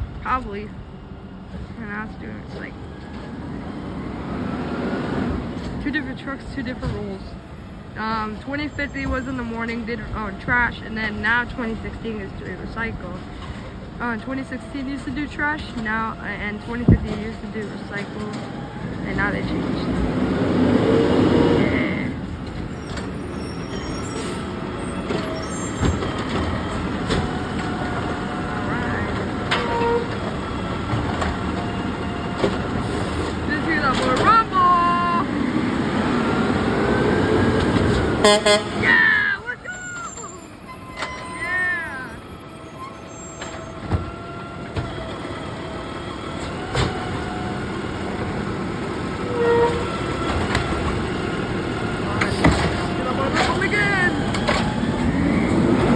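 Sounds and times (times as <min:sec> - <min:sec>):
garbage truck running: 0:00.0 - 0:55.9.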